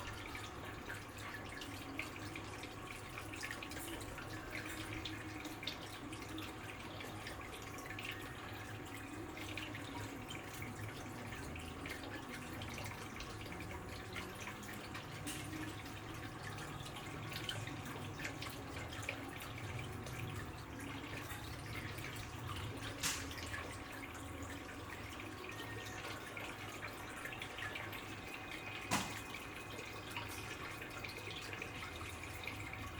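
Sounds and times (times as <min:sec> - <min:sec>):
water dripping and trickling: 0:00.0 - 0:32.9.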